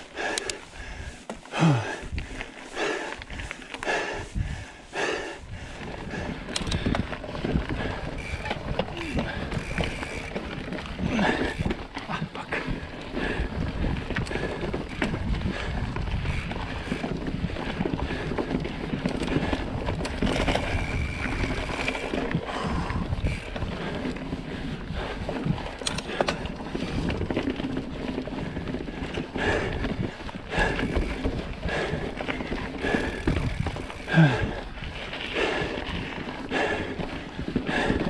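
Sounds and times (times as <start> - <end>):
bike rattling over bumps: 0.0 - 38.0
bike tyres rolling over dirt: 0.0 - 38.0
wind on microphone: 0.2 - 11.9, 12.5 - 38.0.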